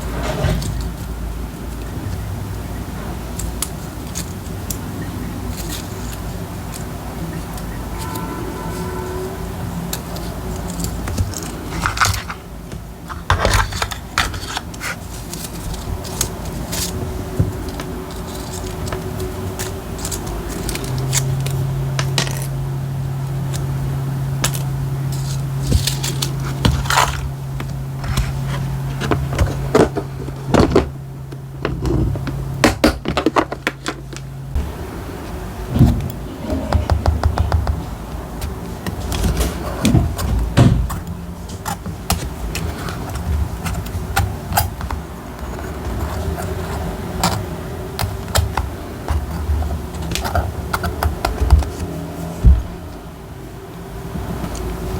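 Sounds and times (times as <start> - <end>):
steady low hum: 0.0 - 54.9
paper and stickers being handled: 3.4 - 22.6, 24.4 - 53.0.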